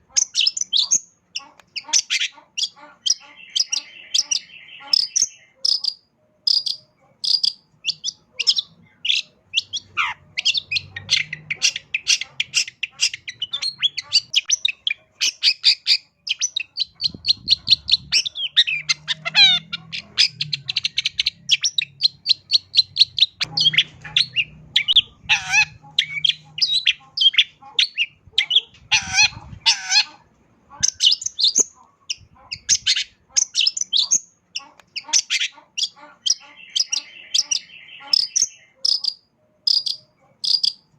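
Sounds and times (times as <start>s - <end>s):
shrike singing: 0.0s - 30.1s, 30.8s - 40.9s.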